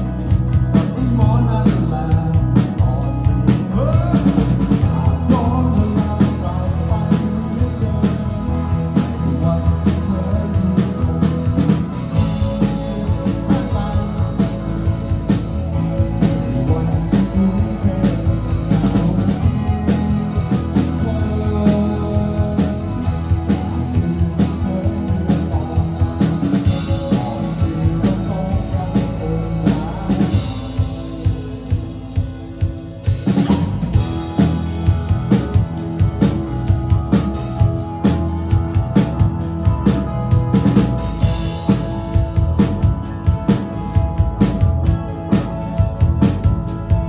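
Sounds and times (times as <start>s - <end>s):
bass guitar: 0.0s - 47.0s
drum kit: 0.0s - 47.0s
electric guitars: 0.0s - 47.0s.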